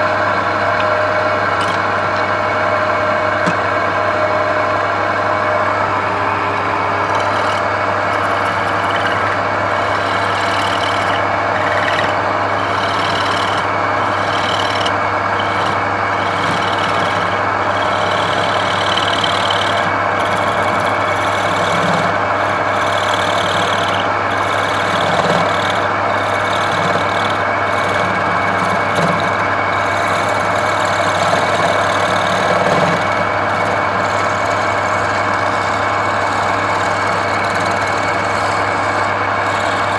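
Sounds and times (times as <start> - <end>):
lathe motor humming: 0.0 - 39.9
turning tool cutting spinning wood: 0.0 - 39.9.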